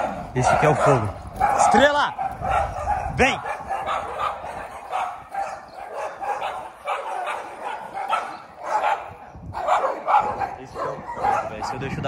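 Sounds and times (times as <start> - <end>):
dog barking rapidly: 0.0 - 12.0.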